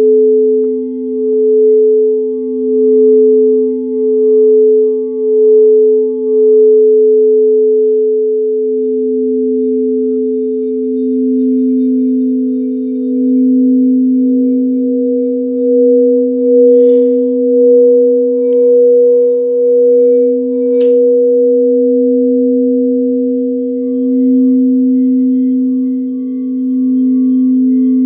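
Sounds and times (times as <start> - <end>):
singing bowls ringing: 0.0 - 28.0.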